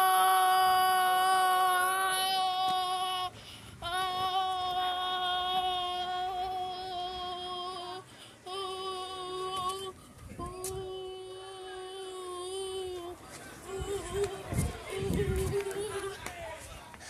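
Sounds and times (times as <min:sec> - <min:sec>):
high voice singing long note: 0:00.0 - 0:16.1.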